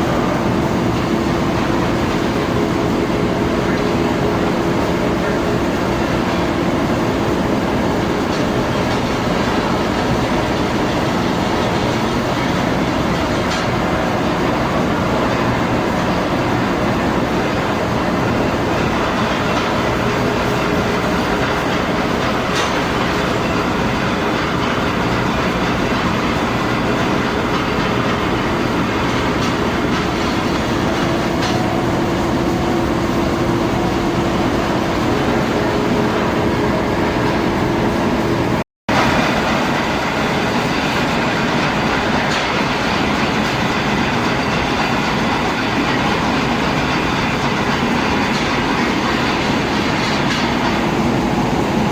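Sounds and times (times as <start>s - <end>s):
metal lathe running: 0.0s - 51.9s.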